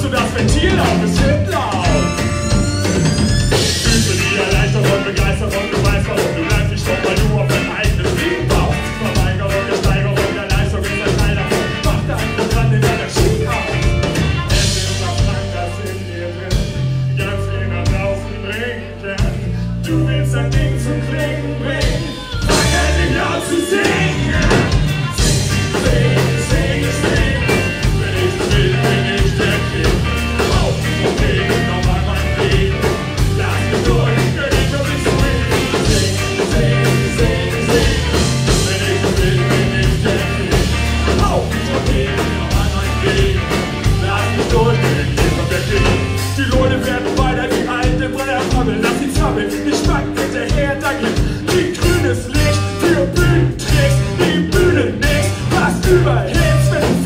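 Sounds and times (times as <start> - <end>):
drums with steady beat: 0.0 - 18.3, 19.2 - 19.6, 21.7 - 57.0
bass guitar: 0.0 - 57.0
live band playing: 0.0 - 57.0.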